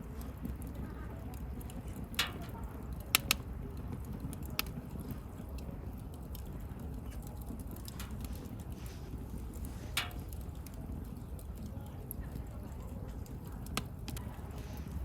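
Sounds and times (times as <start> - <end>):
burning wood crackling and popping: 0.0 - 15.0
campfire rumbling: 0.0 - 15.0.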